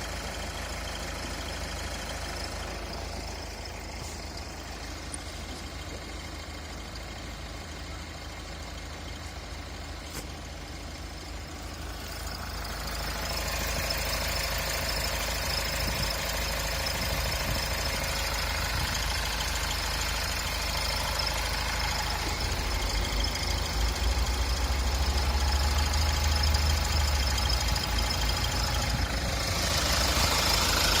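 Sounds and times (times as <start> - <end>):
motor engine running: 1.1 - 31.0.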